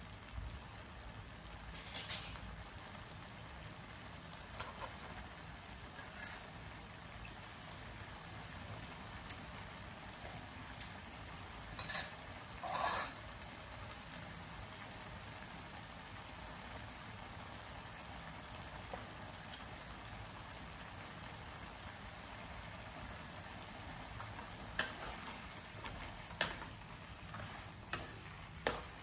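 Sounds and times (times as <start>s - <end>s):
food bubbling in a wok: 0.0s - 29.0s.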